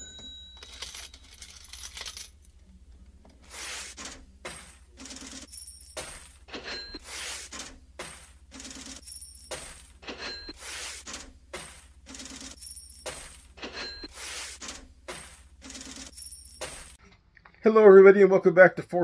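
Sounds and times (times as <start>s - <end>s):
cash register ring: 0.0s - 2.4s, 3.5s - 17.0s
coins clinking and spilling: 0.0s - 2.4s, 3.5s - 17.0s.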